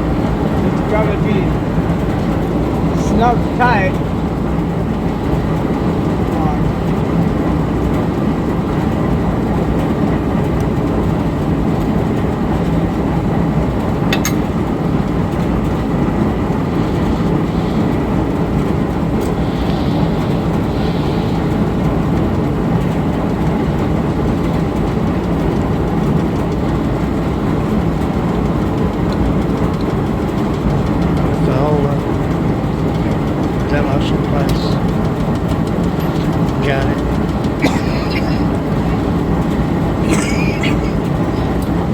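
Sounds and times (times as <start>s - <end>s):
gas engine droning: 0.0s - 12.2s, 12.9s - 41.9s.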